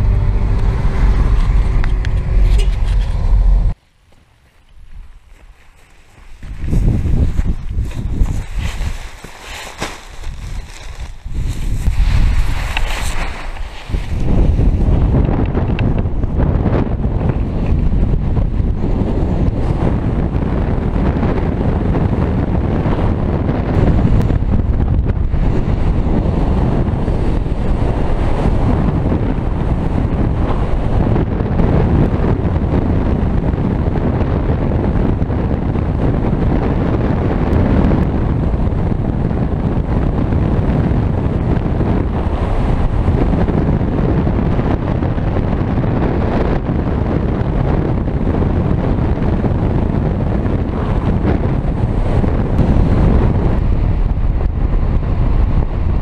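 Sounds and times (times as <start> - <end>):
wind rushing over camera microphone: 0.0 - 56.0.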